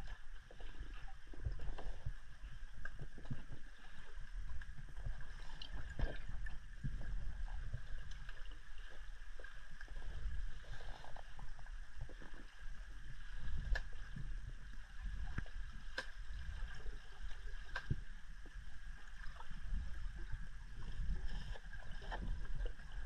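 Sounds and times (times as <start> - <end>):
muffled underwater rumble: 0.0 - 23.0.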